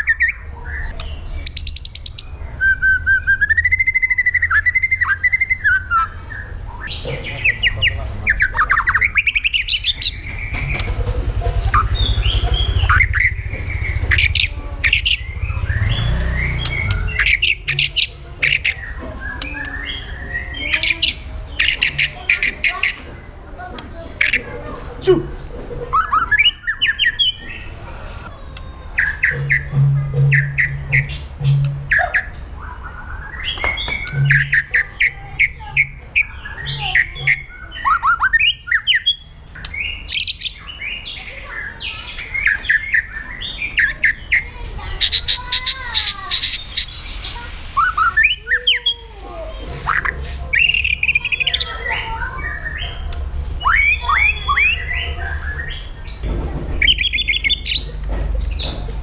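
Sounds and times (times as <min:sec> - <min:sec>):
songbird singing: 0:00.0 - 0:24.5, 0:25.9 - 0:59.0.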